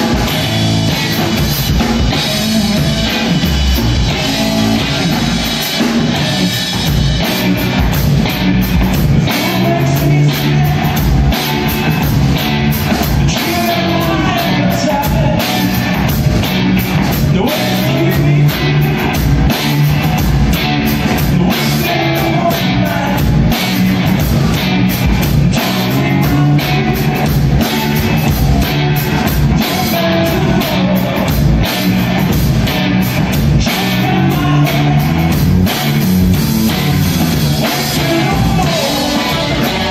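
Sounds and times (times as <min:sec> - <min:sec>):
drum kit beat: 0:00.0 - 0:39.9
electric guitars: 0:00.0 - 0:39.9.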